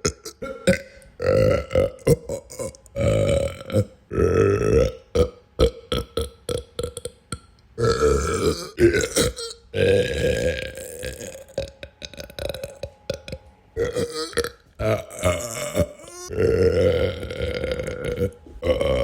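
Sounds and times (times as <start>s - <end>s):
person belching: 0.0s - 19.0s.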